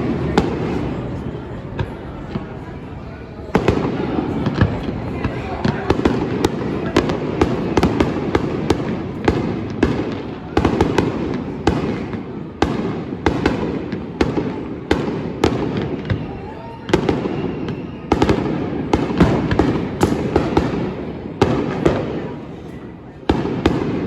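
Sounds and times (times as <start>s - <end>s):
fireworks bangs: 0.0s - 24.0s
fireworks rumble and crackle: 0.0s - 24.0s.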